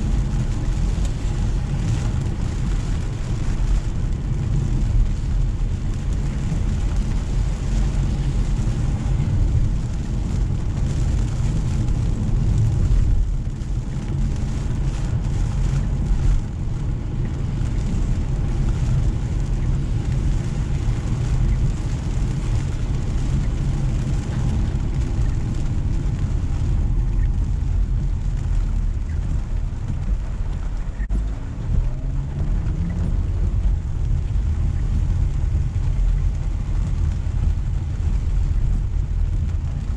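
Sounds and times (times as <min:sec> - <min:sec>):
engine and tyres on wet road: 0:00.0 - 0:39.9
rain and spray hissing: 0:00.0 - 0:39.9.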